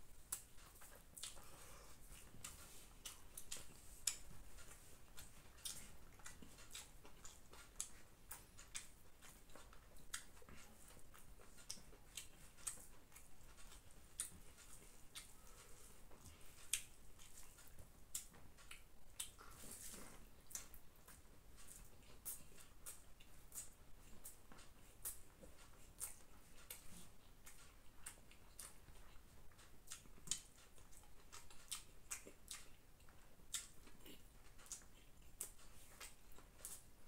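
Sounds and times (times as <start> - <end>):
chewing: 0.2 - 37.0.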